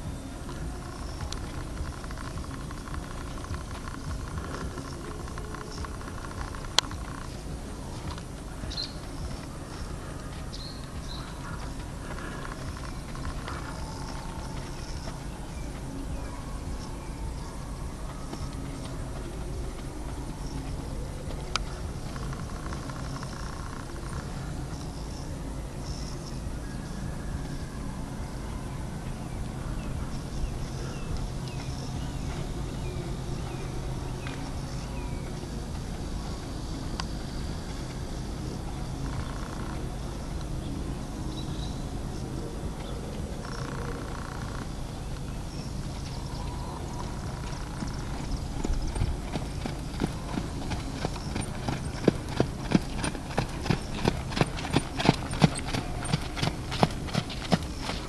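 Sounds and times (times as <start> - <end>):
bird chirping: 0.0 - 58.0
horse hooves trotting on sand: 0.0 - 58.0
steady low rumble: 0.0 - 58.0.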